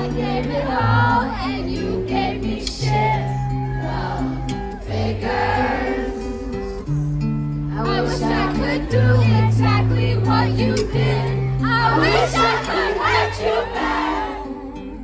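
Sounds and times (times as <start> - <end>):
wavering drawn-out vocals: 0.0 - 15.0.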